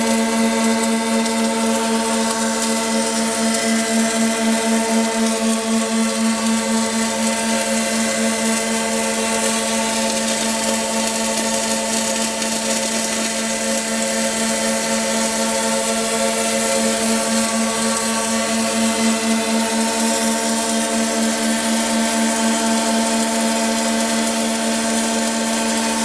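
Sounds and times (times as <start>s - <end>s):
welding machine electrical hum: 0.0s - 26.0s.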